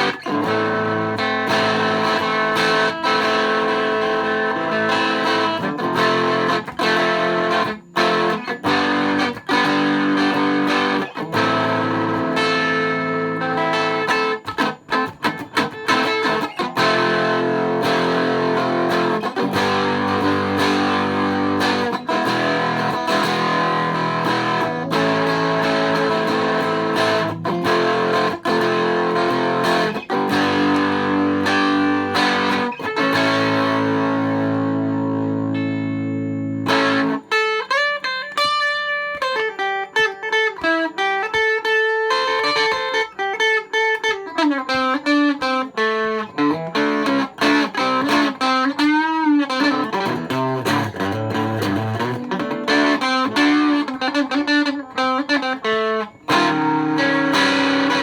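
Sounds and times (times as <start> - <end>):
electric guitar single-note lines: 0.0 - 58.0
electric guitar strummed chords: 0.0 - 58.0.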